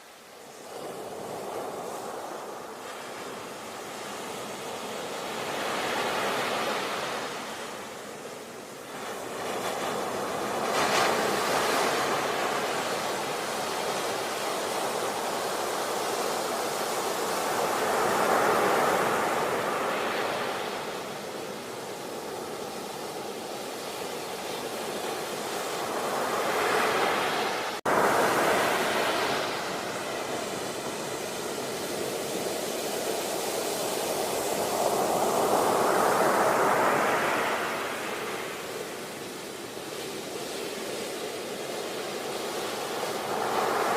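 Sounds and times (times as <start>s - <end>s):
sea waves breaking: 0.5s - 43.9s.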